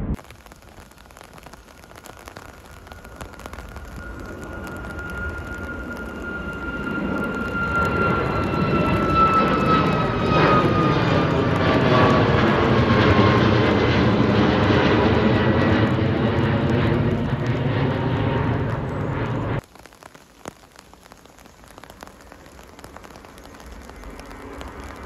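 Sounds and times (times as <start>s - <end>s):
jet engines passing: 1.5s - 19.6s, 22.8s - 25.0s.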